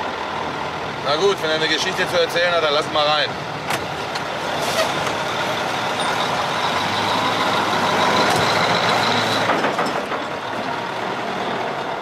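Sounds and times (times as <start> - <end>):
heavy truck driving: 0.0 - 12.0.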